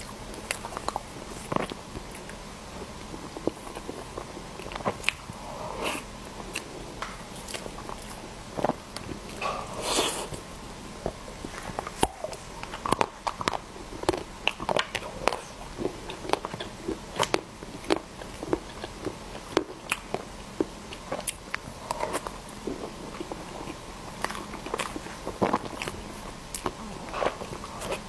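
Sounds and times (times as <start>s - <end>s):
woman chewing: 0.0s - 28.0s.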